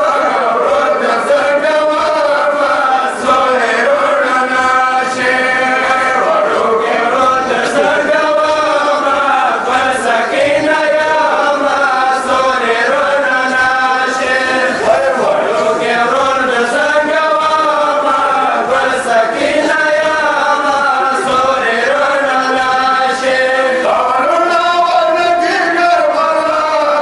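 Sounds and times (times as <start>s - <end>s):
men chanting a lament: 0.0s - 27.0s.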